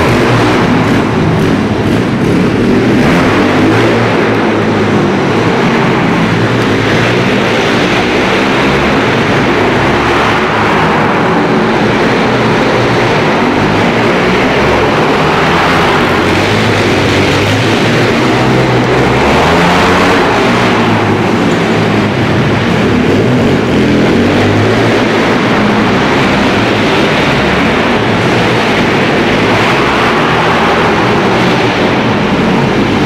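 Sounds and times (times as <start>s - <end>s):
pit bike engine revving: 0.0s - 33.0s.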